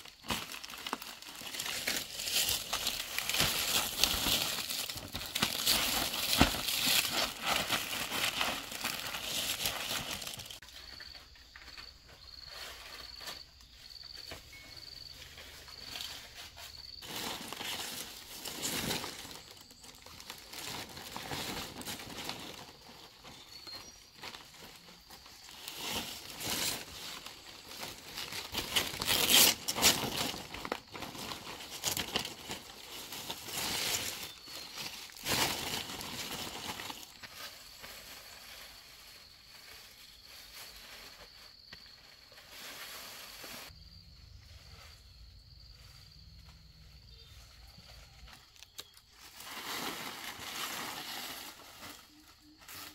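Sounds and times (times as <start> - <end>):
material rustling and crinkling: 0.0 - 43.8.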